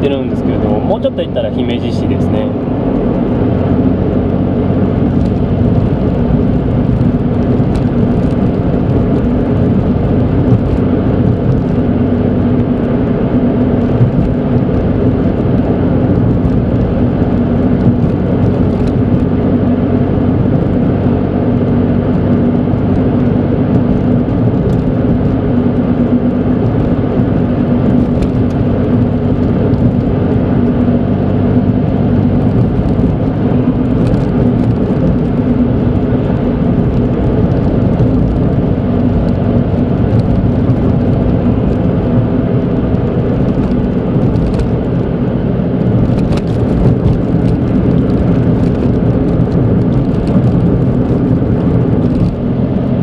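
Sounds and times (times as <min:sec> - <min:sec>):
car engine hum: 0:00.0 - 0:53.0
tyre and road noise: 0:00.0 - 0:53.0.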